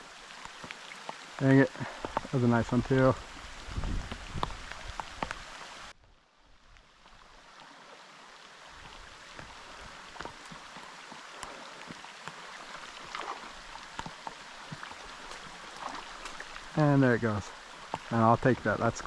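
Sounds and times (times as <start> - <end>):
raindrops tapping close by: 0.0 - 5.9, 8.7 - 19.0
creek rushing: 0.0 - 19.0
rain falling: 0.0 - 19.0.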